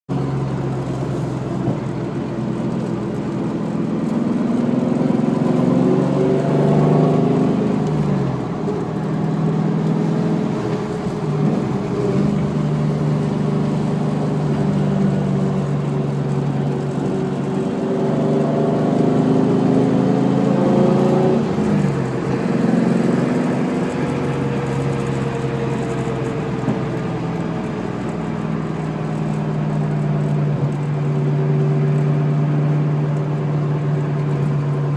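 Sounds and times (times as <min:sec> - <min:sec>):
car driving: 0:00.1 - 0:34.9.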